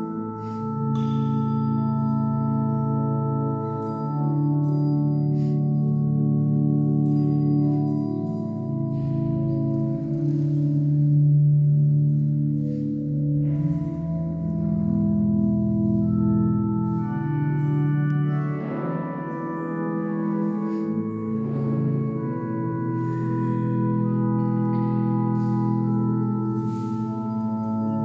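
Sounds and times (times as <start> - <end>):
organ chords: 0.0 - 28.0.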